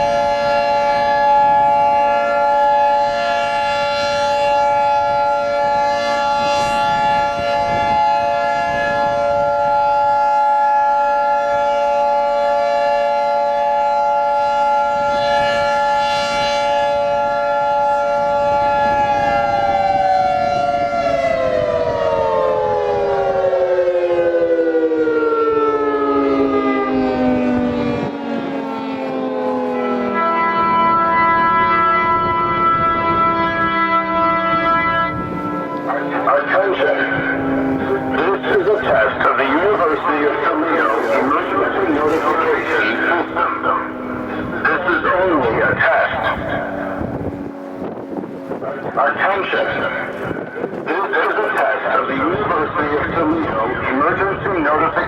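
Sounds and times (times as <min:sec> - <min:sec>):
warning sirens: 0:00.0 - 0:55.0.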